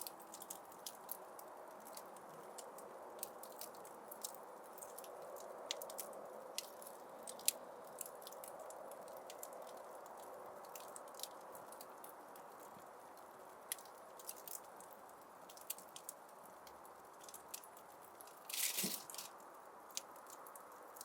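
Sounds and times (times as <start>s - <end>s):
fire crackling and popping: 0.1s - 21.0s.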